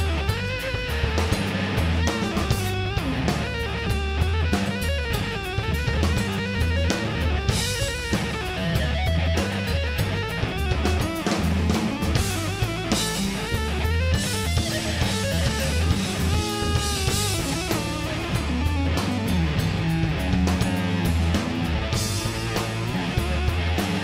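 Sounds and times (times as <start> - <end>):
bass guitar: 0.0 - 24.0
drum kit beat: 0.0 - 24.0
electric guitars: 0.0 - 24.0.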